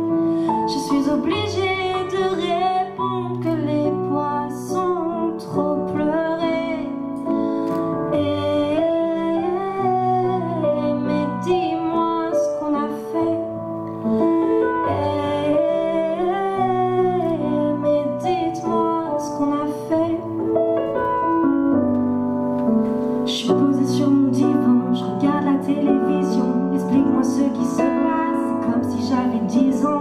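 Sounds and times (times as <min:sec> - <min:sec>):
woman singing with vibrato: 0:00.6 - 0:06.9, 0:08.1 - 0:20.4, 0:23.3 - 0:30.0.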